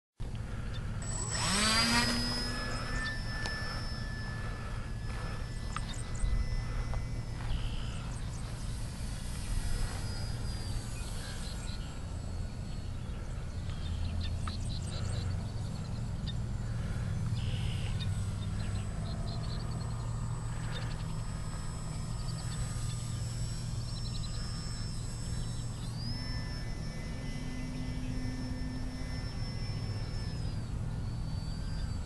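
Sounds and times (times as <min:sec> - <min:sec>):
birds chirping: 0:00.2 - 0:32.0
model plane motor whine: 0:00.2 - 0:32.0.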